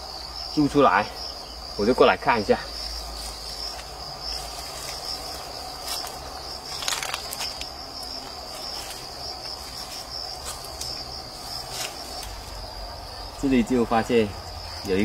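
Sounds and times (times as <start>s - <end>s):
insects chirring: 0.0s - 15.0s
rustle of leaves and twigs: 0.0s - 15.0s.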